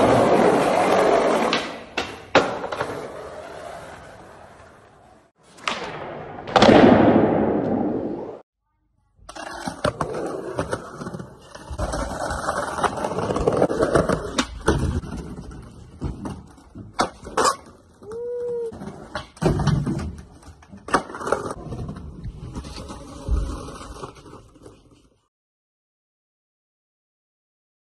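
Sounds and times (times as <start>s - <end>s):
skateboard wheels rolling: 0.0s - 8.4s, 9.3s - 25.3s.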